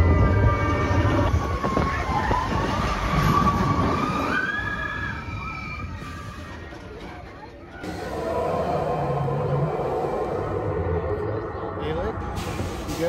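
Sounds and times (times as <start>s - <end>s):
roller coaster train rumble: 0.0s - 13.0s.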